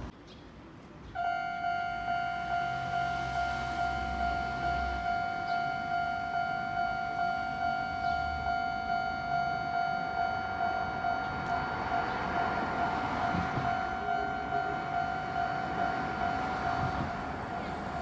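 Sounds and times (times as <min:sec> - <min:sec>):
level-crossing warning bell ringing: 0:01.2 - 0:18.0
train running noise: 0:02.4 - 0:18.0.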